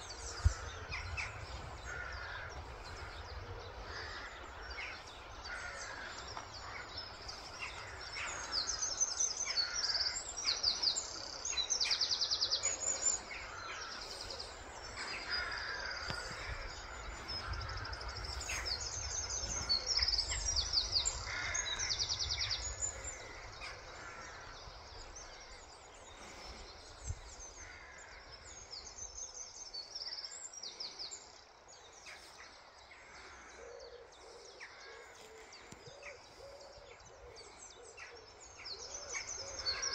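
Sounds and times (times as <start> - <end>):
birds singing and trilling: 0.0 - 39.9.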